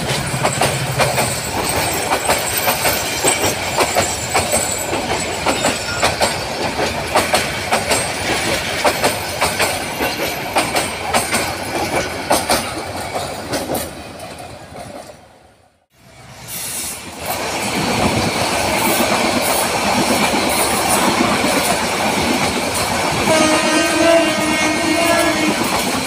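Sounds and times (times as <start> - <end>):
train wheels clattering over rail joints: 0.0 - 15.2, 17.2 - 26.0
train coaches rolling past: 0.0 - 26.0.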